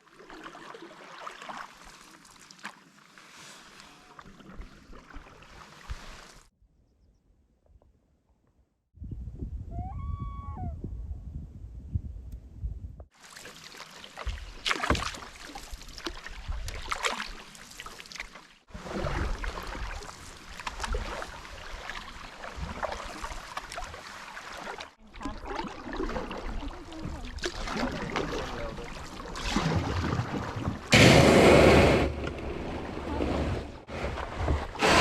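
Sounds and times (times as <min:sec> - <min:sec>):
water splashing around canoes: 0:00.0 - 0:06.5, 0:13.1 - 0:35.0.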